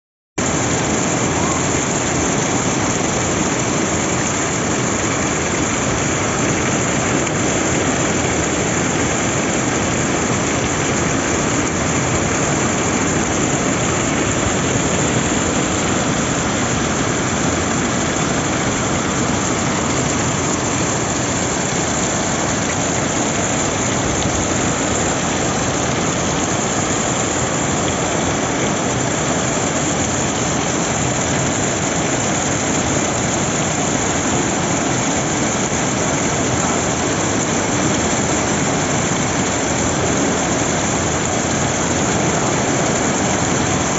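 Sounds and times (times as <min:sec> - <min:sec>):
heavy rain falling: 0:00.4 - 0:43.9.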